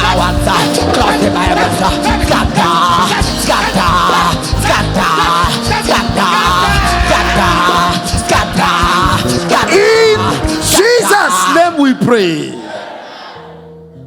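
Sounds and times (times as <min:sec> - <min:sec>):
voices singing or shouting: 0:00.0 - 0:11.9
loud church music: 0:00.0 - 0:12.2.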